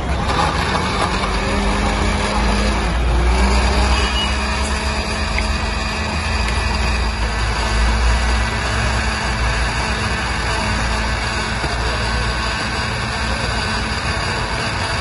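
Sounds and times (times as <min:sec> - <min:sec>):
electric blender running: 0:00.0 - 0:15.0.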